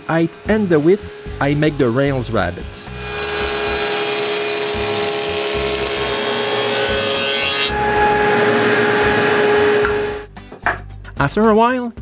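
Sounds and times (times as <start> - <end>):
table saw cutting wood: 0.0 - 10.3.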